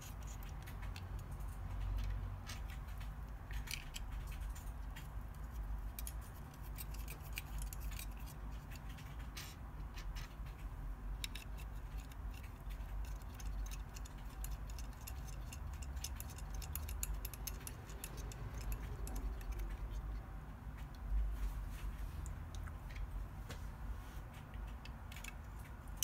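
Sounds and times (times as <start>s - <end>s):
small clicks and taps: 0.0s - 26.0s.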